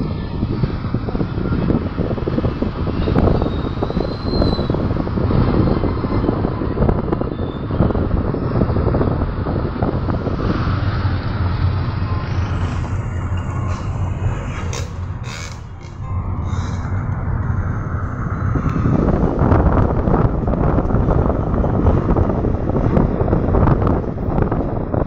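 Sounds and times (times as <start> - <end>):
car road noise: 0.0 - 25.0
wind buffeting microphone: 0.0 - 25.0.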